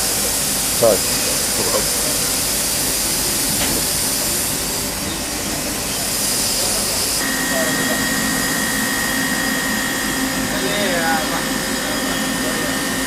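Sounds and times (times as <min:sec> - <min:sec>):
hissing workshop machinery: 0:00.0 - 0:13.0.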